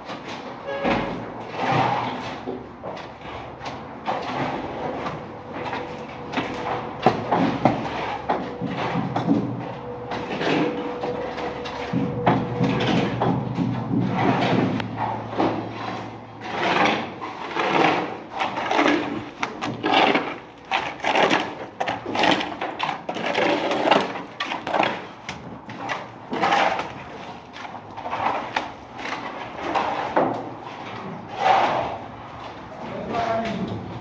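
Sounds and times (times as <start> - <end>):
hand tools scraping building material: 0.0 - 33.9.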